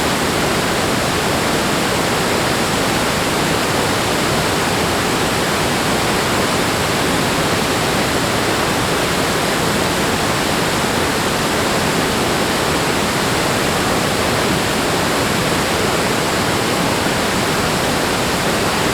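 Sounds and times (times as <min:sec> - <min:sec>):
flowing water rushing: 0:00.0 - 0:18.9.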